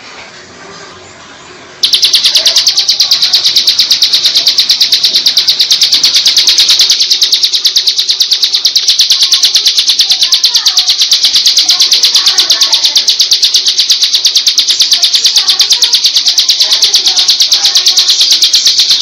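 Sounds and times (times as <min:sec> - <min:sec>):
bird singing rapid high trill: 0:01.8 - 0:19.0.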